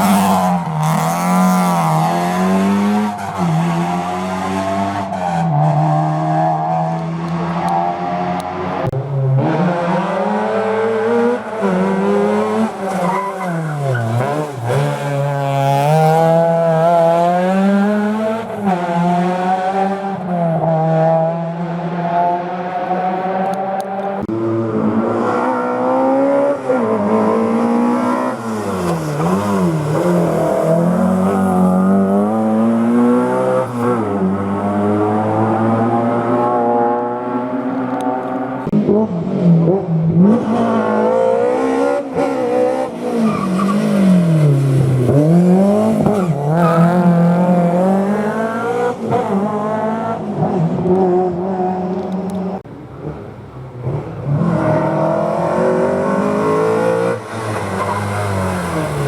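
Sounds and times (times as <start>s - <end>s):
rally car engines accelerating: 0.0s - 59.0s.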